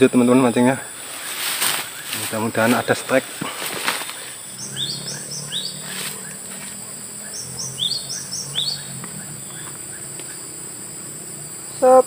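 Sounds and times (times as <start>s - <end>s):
birds chirping: 0.0s - 12.0s
high-pitched insect drone: 0.0s - 12.0s.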